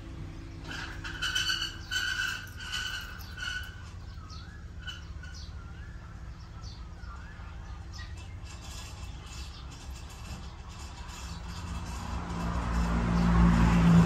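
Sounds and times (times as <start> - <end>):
birds chirping: 0.0 - 12.1.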